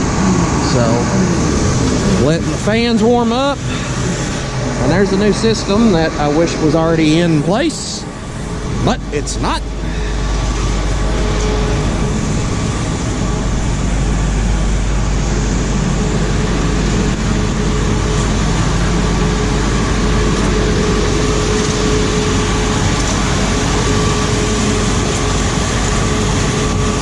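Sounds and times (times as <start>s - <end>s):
machinery droning with a whine: 0.0s - 27.0s.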